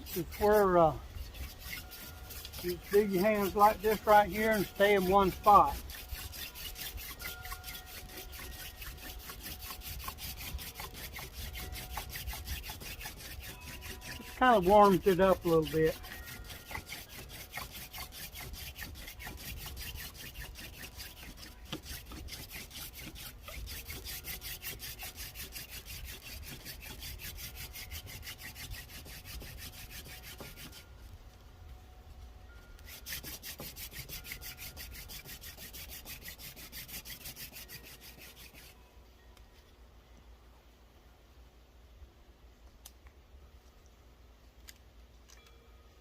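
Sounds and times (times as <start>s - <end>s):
wood-on-wood rubbing of hand drill: 0.0s - 30.9s, 32.8s - 38.8s.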